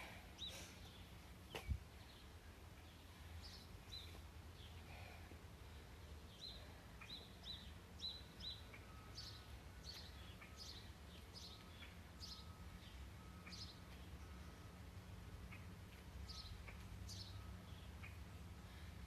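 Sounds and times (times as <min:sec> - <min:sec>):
low steady hum: 0:00.0 - 0:19.0
faint bird chirping: 0:00.1 - 0:19.0.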